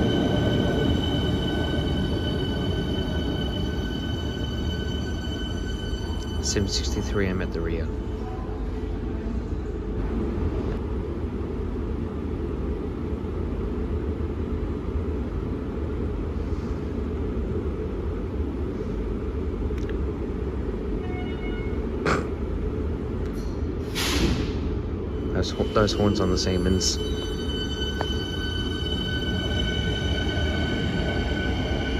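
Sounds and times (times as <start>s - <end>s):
electric train rumbling: 0.0s - 31.9s.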